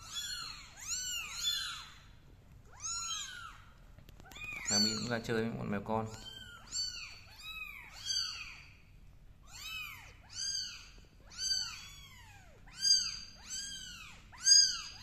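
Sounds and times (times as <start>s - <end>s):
kittens mewing: 0.0s - 5.3s, 6.1s - 8.8s, 9.4s - 15.0s.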